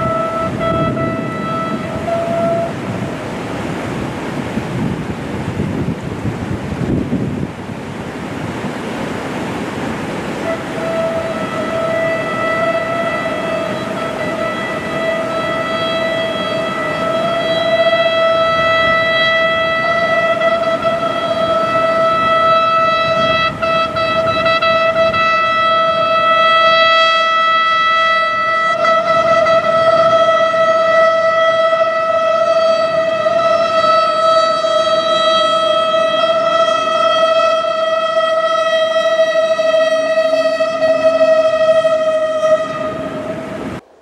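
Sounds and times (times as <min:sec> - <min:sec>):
locomotive horn: 0:00.0 - 0:04.6, 0:08.8 - 0:44.0.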